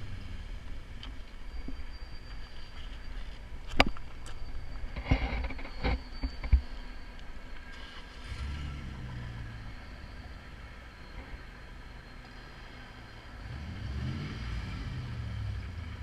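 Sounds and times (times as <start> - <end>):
engine running low and slow: 0.0 - 16.0.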